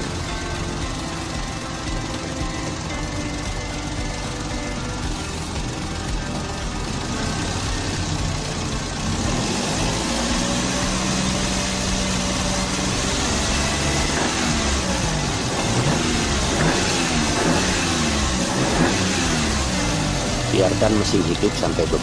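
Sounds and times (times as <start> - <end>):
petrol engine idling and revving: 0.0 - 22.0.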